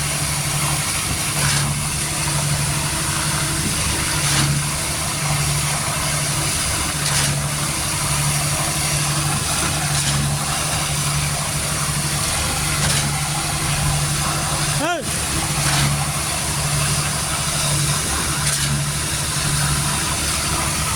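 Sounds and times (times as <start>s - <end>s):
machinery engine humming: 0.0s - 20.9s.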